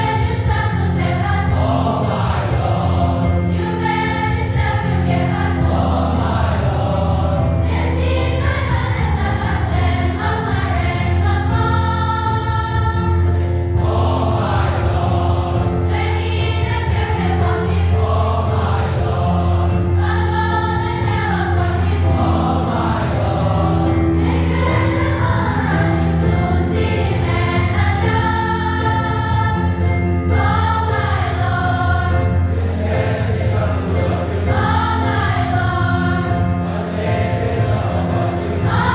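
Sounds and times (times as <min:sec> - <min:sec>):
choir singing: 0:00.0 - 0:38.9
low accompaniment: 0:00.0 - 0:38.9.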